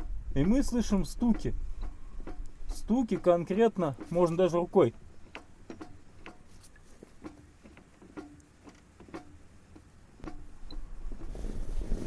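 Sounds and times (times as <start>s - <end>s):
faint clacking knocks in gearbox: 0.0s - 11.3s.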